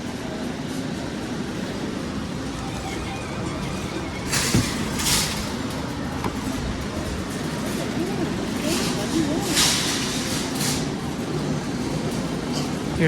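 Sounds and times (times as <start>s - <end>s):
arcade machines humming: 0.1s - 13.0s.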